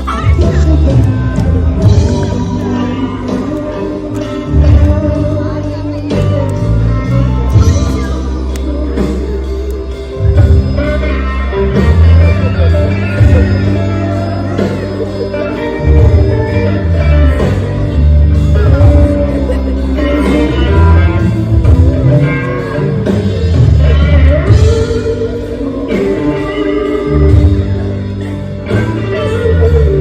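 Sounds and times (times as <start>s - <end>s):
guitar music with beat: 0.0s - 30.0s
person singing: 0.0s - 30.0s.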